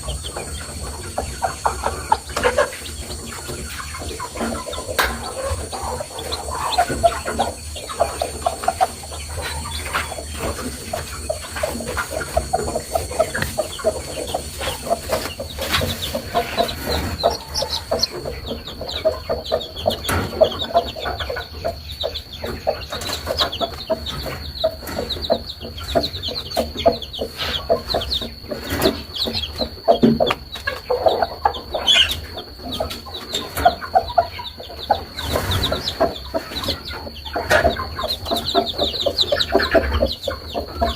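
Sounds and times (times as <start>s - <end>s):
high chirps: 0.0s - 33.2s
chickens clucking: 0.0s - 40.9s.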